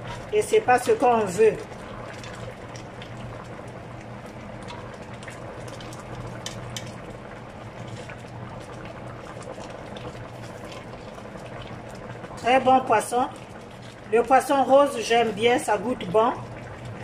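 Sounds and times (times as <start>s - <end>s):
broth bubbling in pot: 0.0s - 17.0s.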